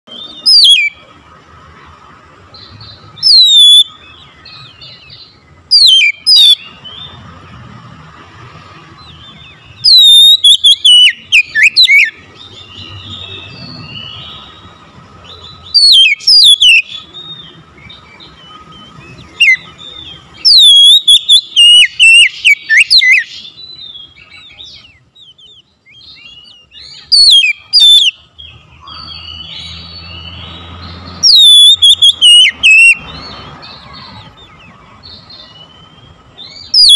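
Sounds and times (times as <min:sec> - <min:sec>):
bird singing whistled notes: 0:00.1 - 0:01.2, 0:02.5 - 0:07.4, 0:08.8 - 0:36.9.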